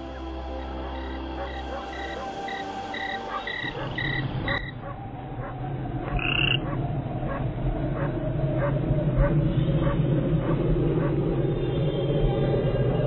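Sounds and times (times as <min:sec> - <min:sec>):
frogs croaking: 0:00.2 - 0:11.7.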